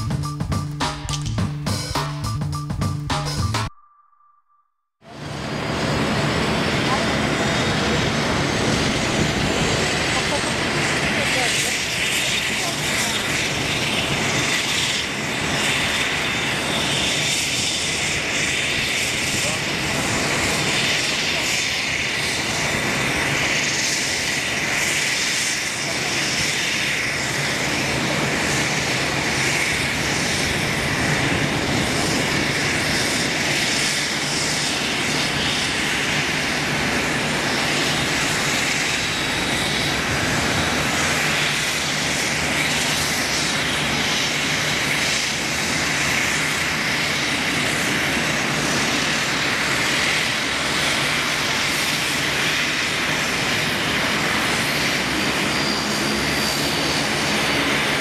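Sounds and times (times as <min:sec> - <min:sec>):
jet engines rushing with high whine: 0:00.0 - 0:03.5, 0:05.0 - 0:58.0.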